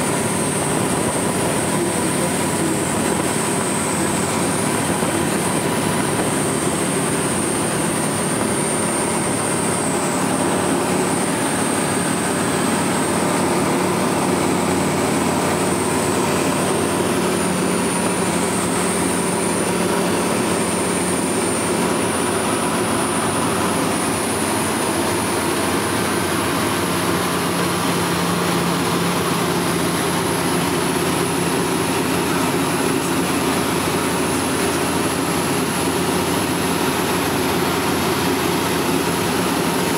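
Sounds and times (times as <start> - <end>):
airflow noise: 0.0 - 38.0
light aircraft engine drone: 0.0 - 39.9.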